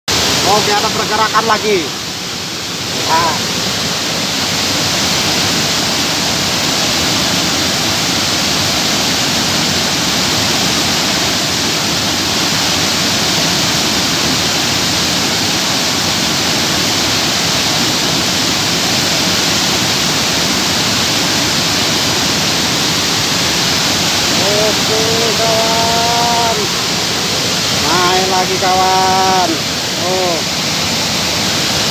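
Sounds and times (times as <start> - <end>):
fast-flowing water rushing: 0.1 - 31.9.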